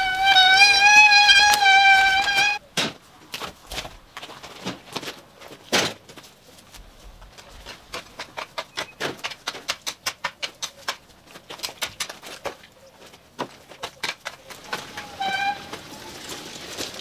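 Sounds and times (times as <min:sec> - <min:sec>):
dry stems crackling and snapping: 0:00.0 - 0:17.0.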